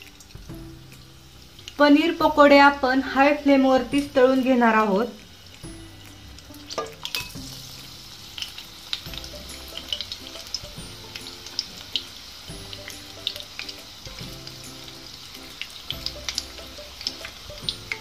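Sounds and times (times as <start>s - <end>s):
food deep-frying in hot oil: 0.0s - 18.0s
soft background music: 0.0s - 18.0s.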